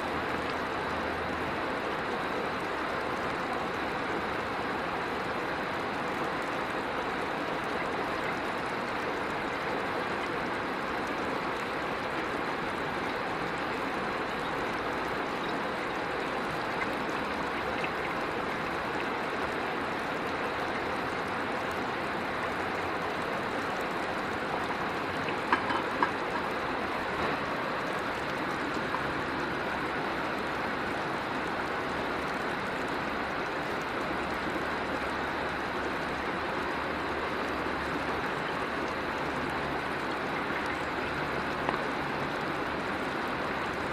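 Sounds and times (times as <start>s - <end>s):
river water running: 0.0s - 43.9s.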